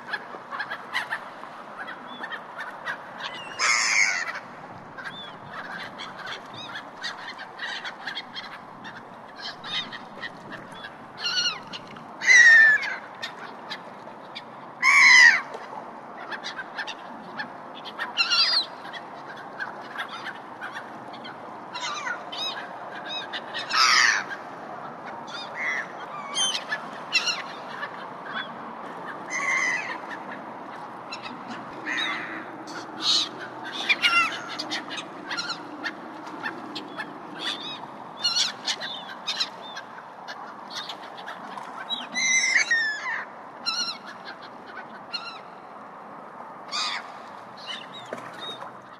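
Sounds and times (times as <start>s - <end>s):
jungle birds calling: 0.0s - 15.5s, 16.2s - 45.7s, 46.7s - 48.7s.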